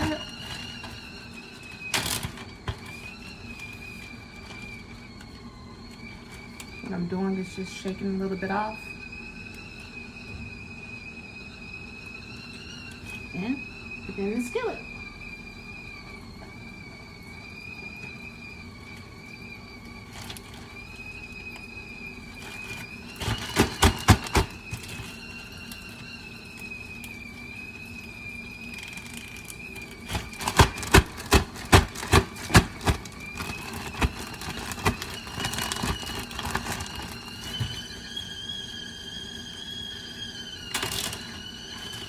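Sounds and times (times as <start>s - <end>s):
kettle whistling: 0.0s - 42.0s.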